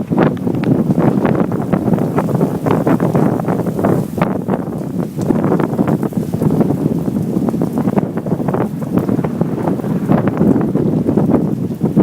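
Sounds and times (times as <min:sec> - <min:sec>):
heavy rain pouring: 0:00.0 - 0:12.0
wind buffeting microphone: 0:00.0 - 0:12.0.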